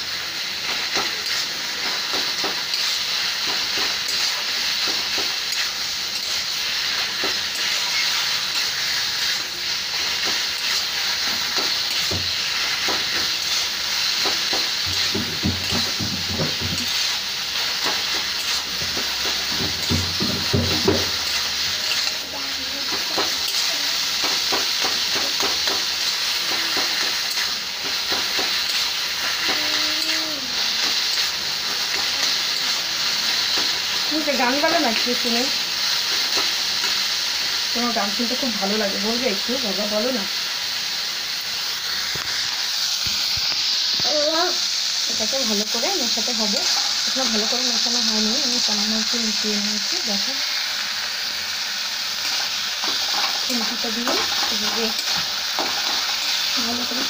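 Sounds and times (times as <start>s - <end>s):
food sizzling in hot oil: 0.0s - 57.0s.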